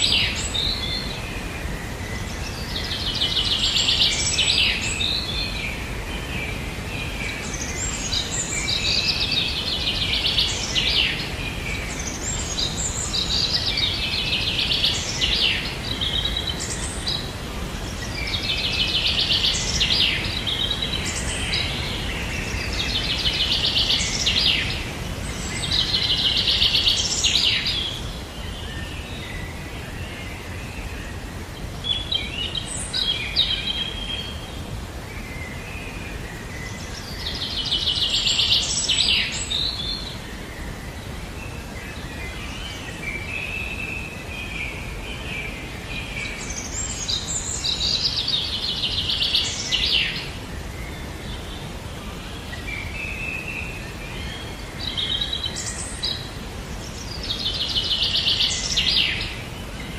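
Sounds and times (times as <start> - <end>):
low background noise: 0.0 - 59.9.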